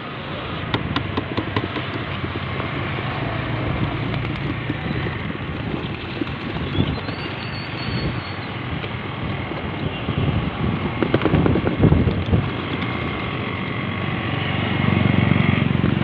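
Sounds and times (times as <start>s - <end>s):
wind on microphone: 0.6s - 16.0s.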